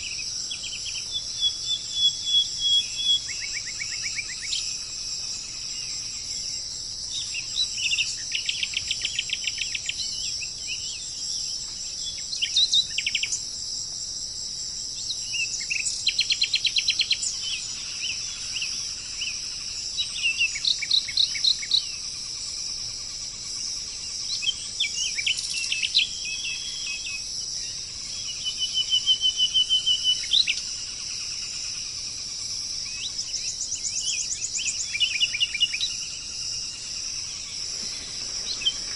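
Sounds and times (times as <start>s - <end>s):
songbirds trilling: 0.0s - 13.6s, 14.7s - 38.9s
high-pitched insect drone: 0.0s - 38.9s.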